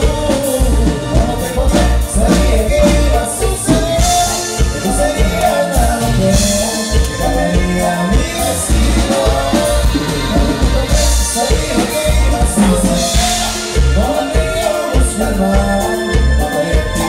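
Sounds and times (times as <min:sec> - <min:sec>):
dance band playing: 0:00.0 - 0:17.0
person singing: 0:00.0 - 0:17.0.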